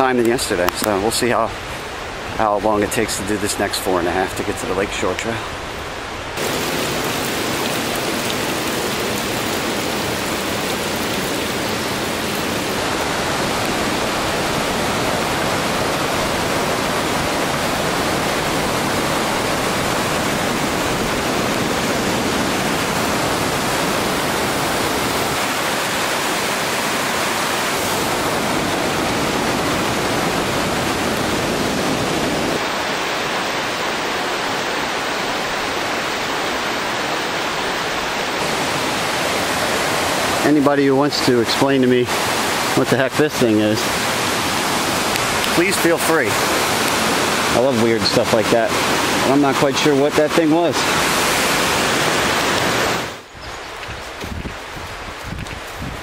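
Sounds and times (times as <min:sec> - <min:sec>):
rushing mountain creek: 0:00.0 - 0:56.0.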